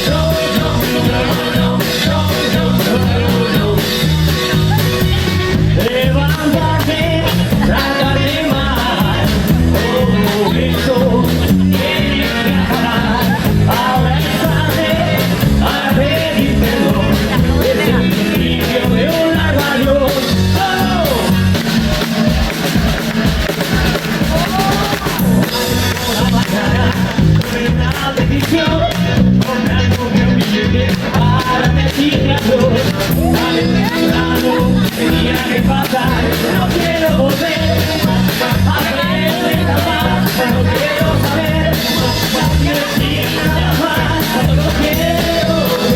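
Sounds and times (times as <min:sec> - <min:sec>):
person singing: 0:00.0 - 0:22.9, 0:23.5 - 0:45.9
bass line: 0:00.0 - 0:45.9
drum beat: 0:00.0 - 0:45.9
rockabilly band playing live: 0:00.0 - 0:45.9.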